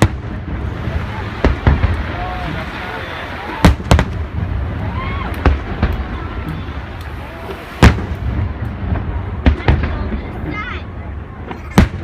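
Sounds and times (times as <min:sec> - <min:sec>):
firework shells booming: 0:00.0 - 0:10.6, 0:11.4 - 0:12.0
steady low rumble: 0:00.0 - 0:12.0.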